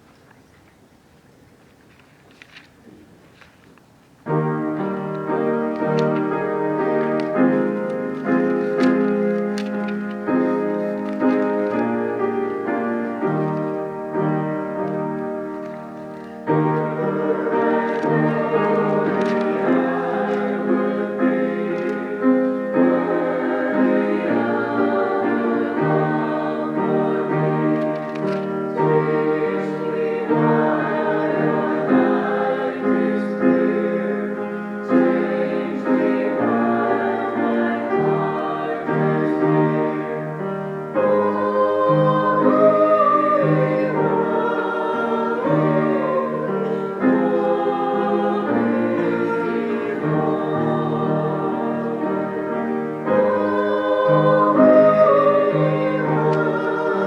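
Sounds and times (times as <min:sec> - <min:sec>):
piano accompaniment: 0:04.1 - 0:57.0
choir singing: 0:04.3 - 0:57.0.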